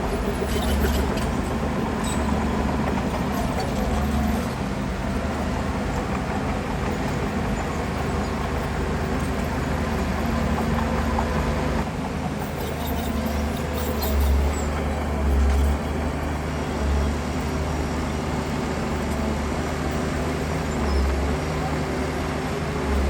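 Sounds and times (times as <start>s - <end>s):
heavy diesel engine rumbling: 0.0s - 23.0s.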